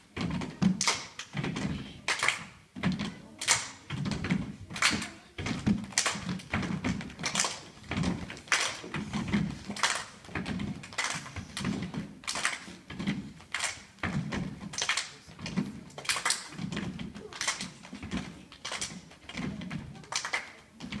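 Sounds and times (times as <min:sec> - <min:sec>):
children clapping in unison: 0:00.6 - 0:21.0.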